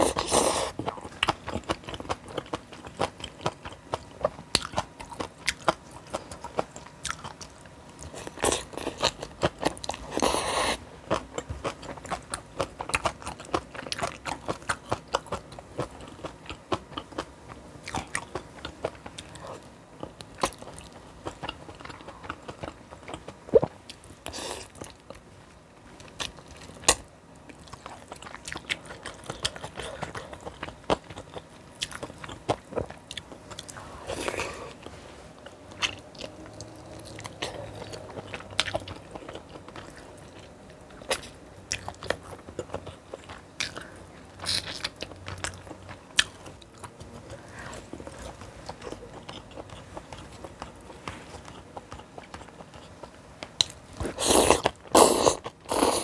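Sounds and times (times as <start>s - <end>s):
person chewing crunchy food: 0.0s - 25.3s, 26.0s - 56.0s.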